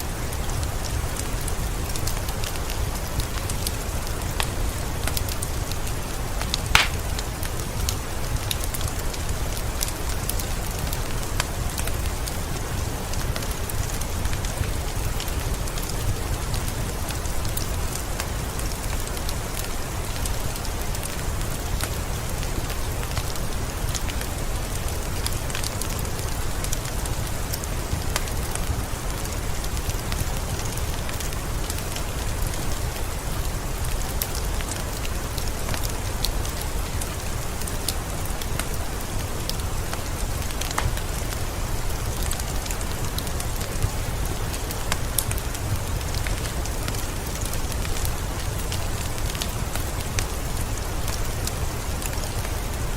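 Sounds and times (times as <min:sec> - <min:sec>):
steady rain: 0:00.0 - 0:52.9
wood fire crackling: 0:00.1 - 0:52.9.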